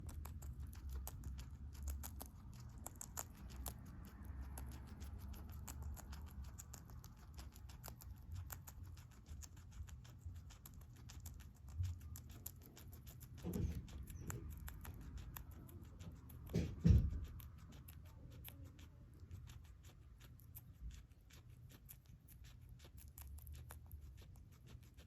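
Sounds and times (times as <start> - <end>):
guinea pig chewing food: 0.0 - 25.0.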